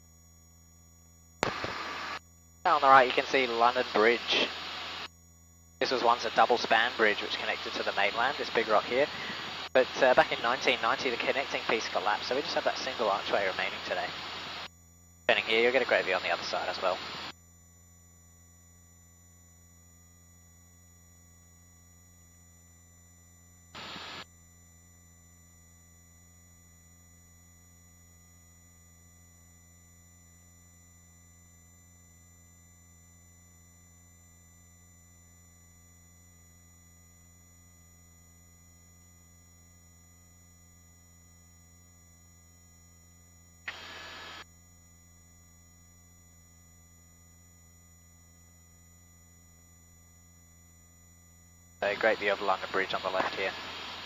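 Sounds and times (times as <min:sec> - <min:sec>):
intercom hum with thin tones: 0:00.0 - 0:54.0.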